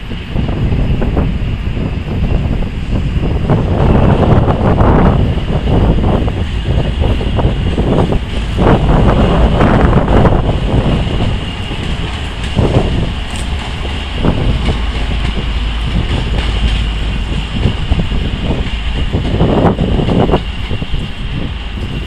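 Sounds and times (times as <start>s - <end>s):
diesel locomotive rumbling past: 0.0s - 22.0s
wind buffeting microphone: 0.0s - 22.0s.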